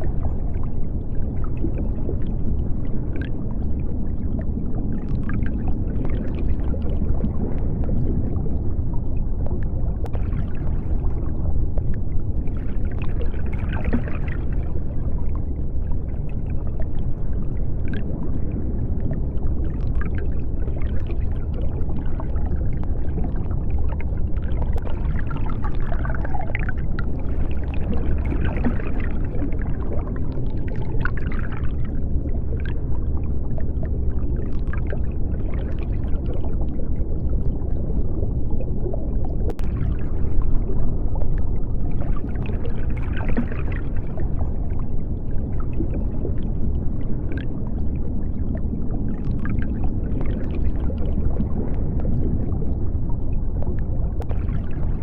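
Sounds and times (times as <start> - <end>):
deep underwater rumble: 0.0 - 55.0.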